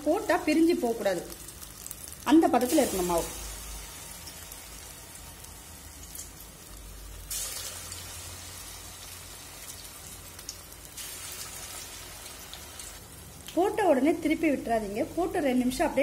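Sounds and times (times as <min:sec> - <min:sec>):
batter deep-frying in hot oil: 0:00.0 - 0:16.0.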